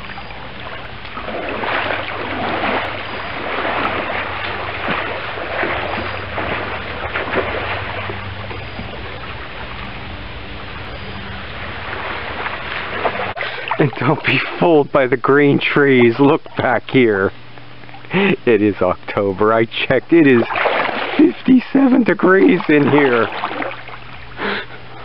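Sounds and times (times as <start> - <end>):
swimmer splashing in pool: 0.0 - 16.7, 20.0 - 24.6
steady low hum: 0.0 - 25.0.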